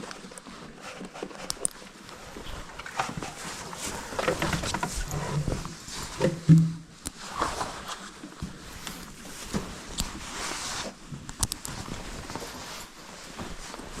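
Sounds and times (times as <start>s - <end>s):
fabric rustling: 0.0s - 14.0s.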